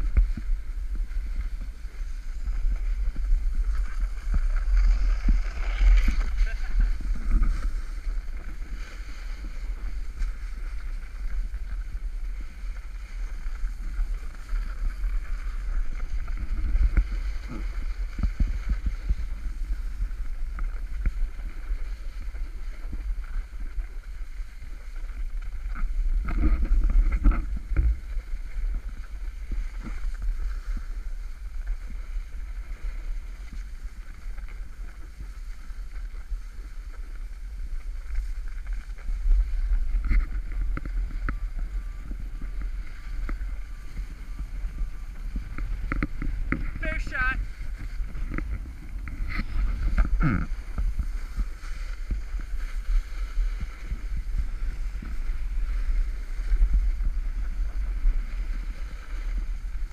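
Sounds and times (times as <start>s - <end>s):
skis scraping on snow: 0.0s - 59.9s
wind buffeting microphone: 0.0s - 59.9s.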